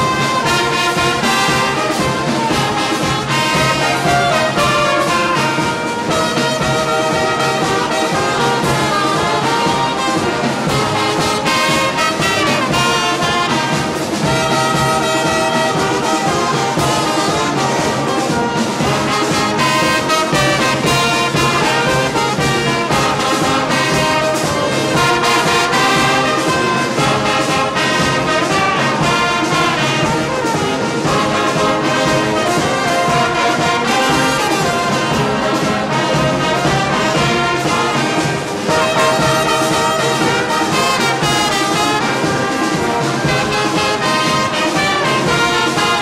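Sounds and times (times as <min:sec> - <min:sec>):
brass band playing: 0:00.0 - 0:46.0.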